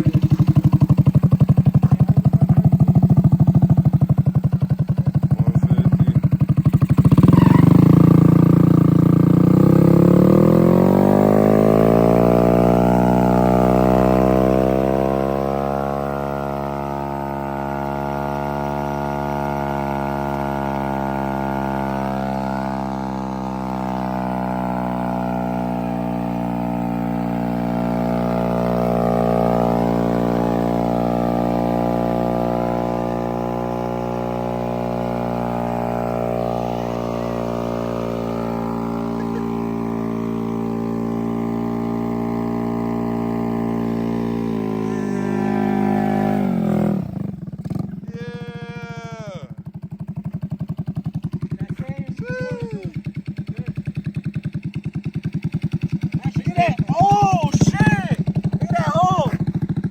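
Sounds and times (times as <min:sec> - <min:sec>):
moped engine at high revs: 0:00.0 - 0:59.9.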